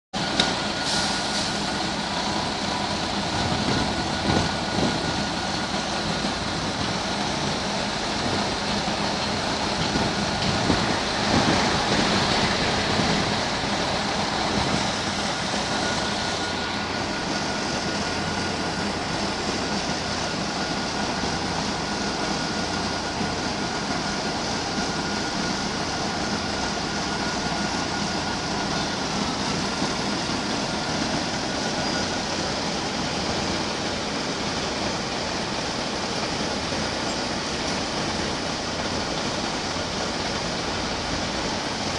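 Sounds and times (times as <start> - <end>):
bus diesel engine running: 0.1 - 41.9.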